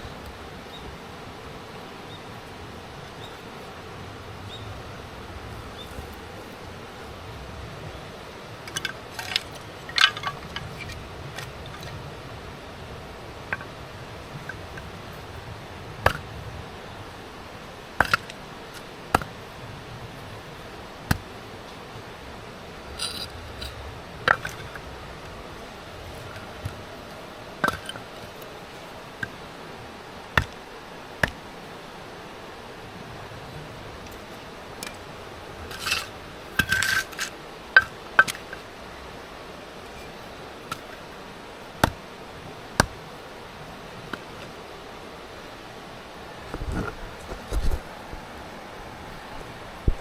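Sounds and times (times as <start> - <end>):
low background hiss: 0.0 - 50.0.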